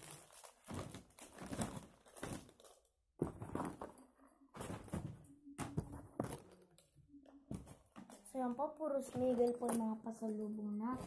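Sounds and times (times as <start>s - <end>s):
small items rustling and knocking: 0.0s - 11.0s.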